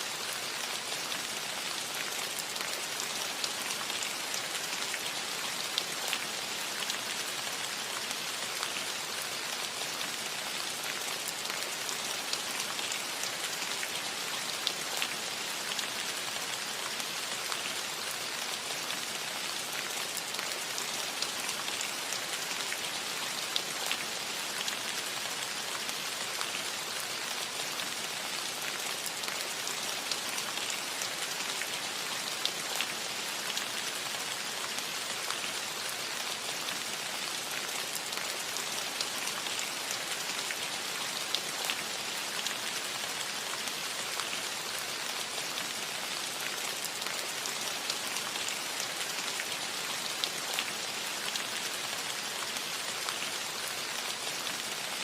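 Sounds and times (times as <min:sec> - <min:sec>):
rain on a metal roof: 0:00.0 - 0:55.0.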